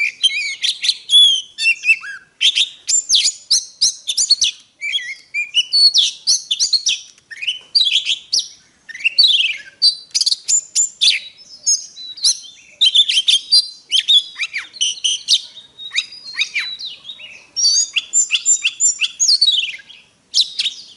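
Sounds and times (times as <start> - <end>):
bird singing whistled notes: 0.0 - 20.9.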